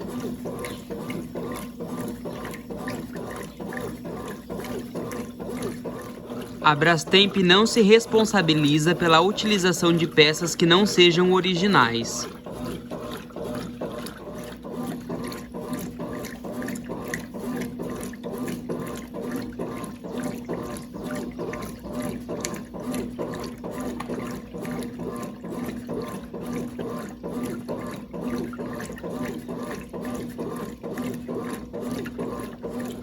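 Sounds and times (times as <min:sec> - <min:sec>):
washing machine motor hum: 0:00.0 - 0:33.0
water sloshing in washing machine: 0:00.0 - 0:33.0.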